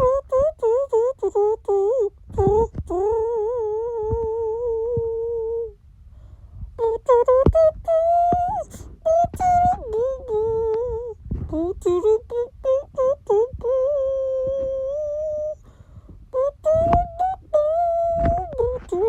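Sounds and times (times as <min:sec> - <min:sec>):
high voice humming a tune: 0:00.0 - 0:05.8, 0:06.8 - 0:15.6, 0:16.3 - 0:19.0.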